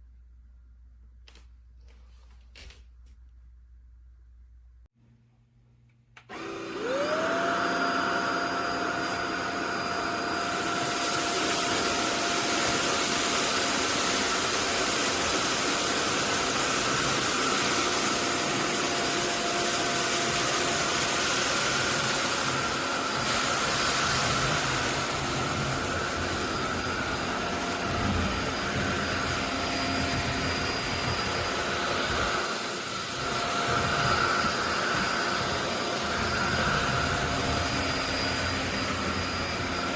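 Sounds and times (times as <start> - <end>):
vacuum cleaner motor whining: 6.2 - 39.9.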